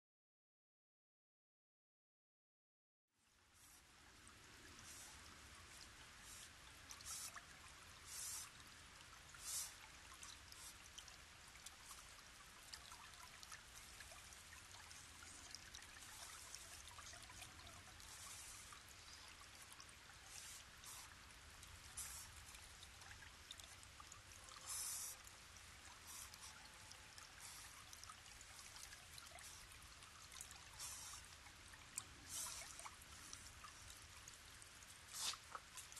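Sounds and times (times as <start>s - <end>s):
stream water trickling: 3.2s - 35.9s.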